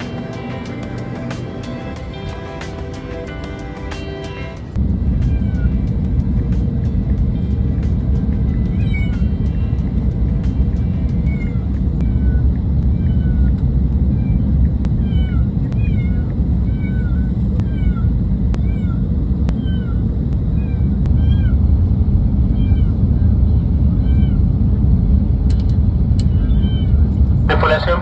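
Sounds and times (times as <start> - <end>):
airliner cabin rumble: 4.4 - 28.0.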